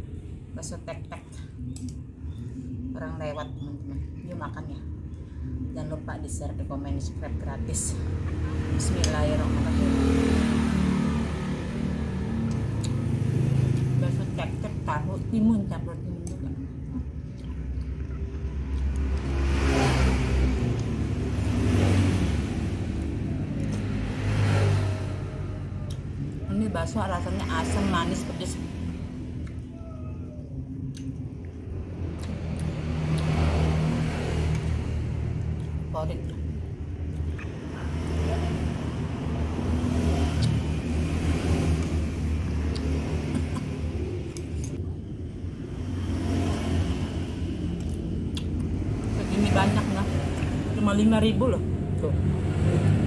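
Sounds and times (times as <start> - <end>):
low engine hum: 0.0 - 53.0
low motor rumble: 0.0 - 53.0
vehicles passing close by: 0.0 - 53.0.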